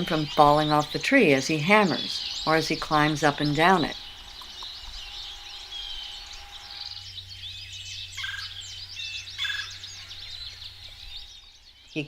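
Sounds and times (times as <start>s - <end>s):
small birds chirping: 0.0s - 12.0s
woodpecker rolling calls: 0.0s - 12.0s.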